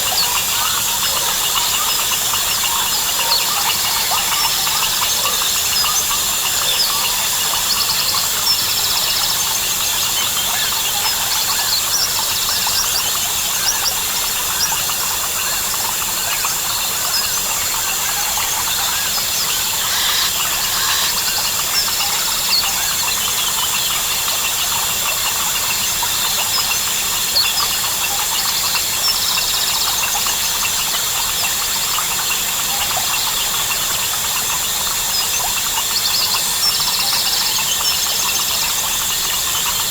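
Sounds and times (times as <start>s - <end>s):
crickets trilling: 0.0s - 39.9s
frog and bird calls: 0.0s - 39.9s.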